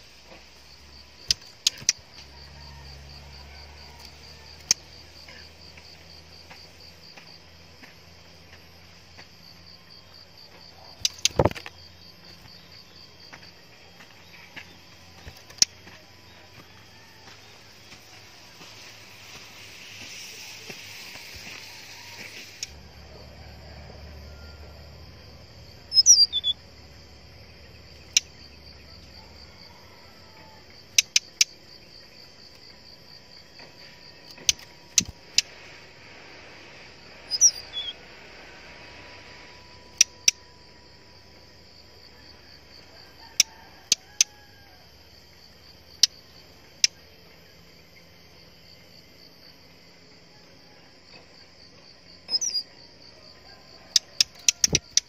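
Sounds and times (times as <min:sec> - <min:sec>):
pulsing insect drone: 0:00.0 - 0:55.0.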